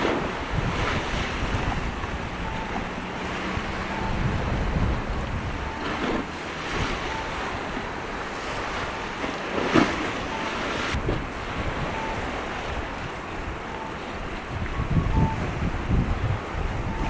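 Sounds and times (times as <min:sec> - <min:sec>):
sea washing: 0:00.0 - 0:17.0
wind buffeting microphone: 0:00.0 - 0:17.0.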